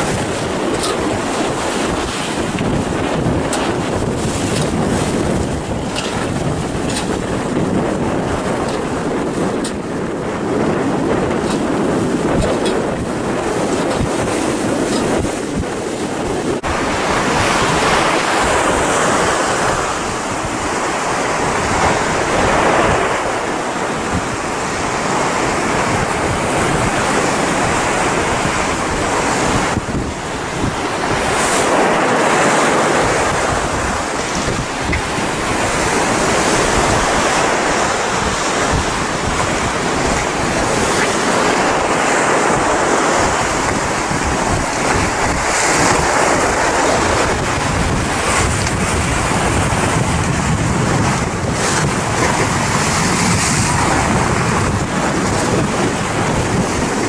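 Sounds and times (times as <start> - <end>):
waves breaking: 0.0 - 57.0
wind buffeting microphone: 0.0 - 57.0.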